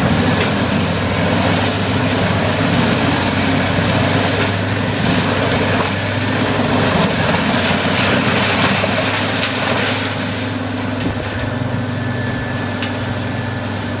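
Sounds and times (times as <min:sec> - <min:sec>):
heavy engine drone: 0:00.0 - 0:14.0.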